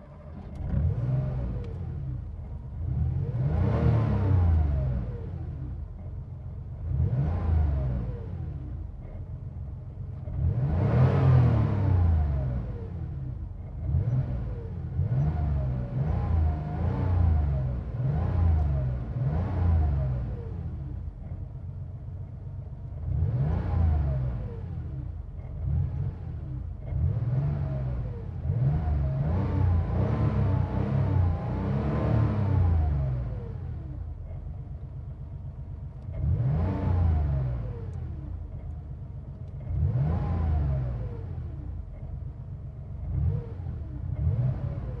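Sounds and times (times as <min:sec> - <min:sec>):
car engine revving: 0:00.0 - 0:05.9, 0:06.8 - 0:09.2, 0:10.1 - 0:21.7, 0:22.9 - 0:45.0.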